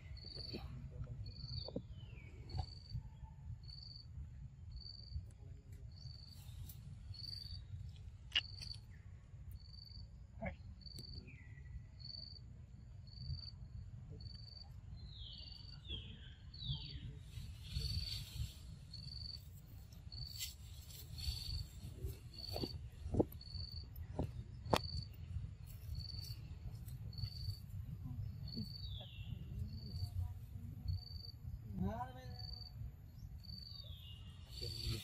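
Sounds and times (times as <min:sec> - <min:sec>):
insect chirping: 0:00.0 - 0:05.3, 0:05.9 - 0:35.0.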